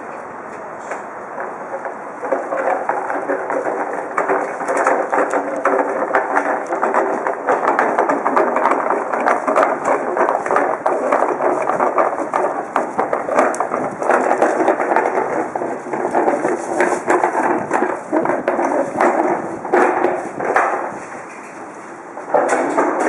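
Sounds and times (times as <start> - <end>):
hand cart wheels rattling on stone: 1.4 - 23.0.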